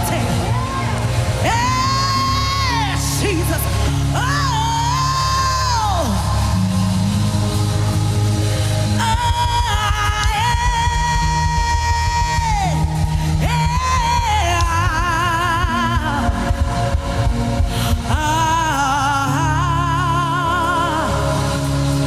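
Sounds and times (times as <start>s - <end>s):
band with bass and drums: 0.0s - 22.0s
person singing with vibrato: 0.0s - 22.0s.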